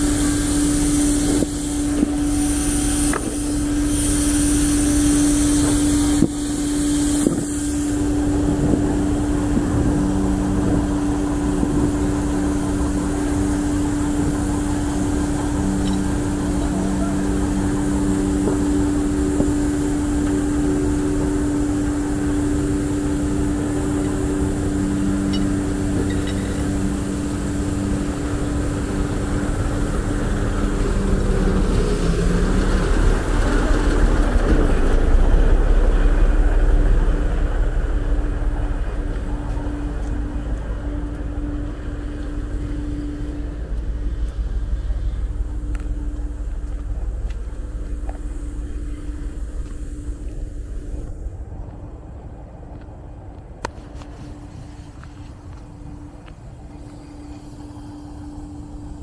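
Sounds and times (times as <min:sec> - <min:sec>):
diesel truck engine idling: 0:00.0 - 0:59.0
two-tone machinery hum: 0:00.0 - 0:59.0.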